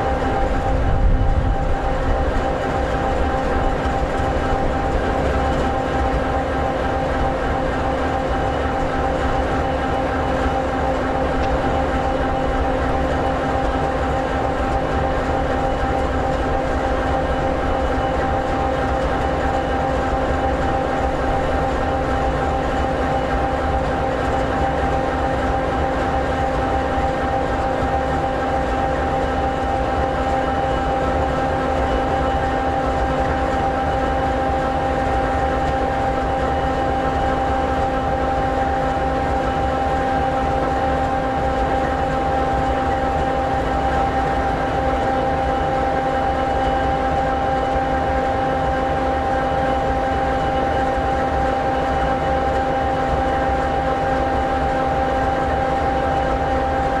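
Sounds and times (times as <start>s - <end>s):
constant engine whine: 0.0s - 57.0s.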